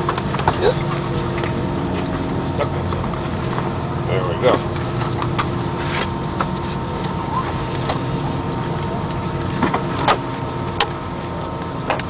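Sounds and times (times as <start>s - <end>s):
aircraft cabin hum: 0.0s - 12.0s
jet engines idling: 0.0s - 12.0s.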